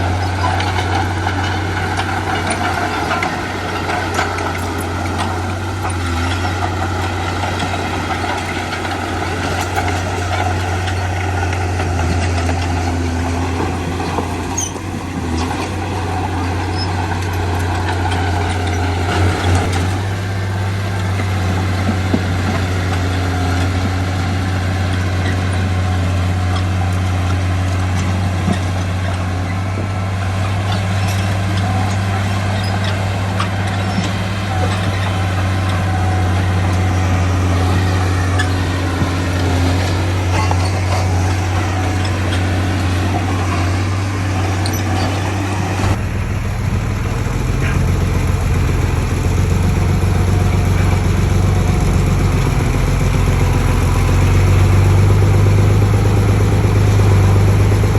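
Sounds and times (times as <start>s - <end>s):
heavy diesel engines droning: 0.0s - 57.9s.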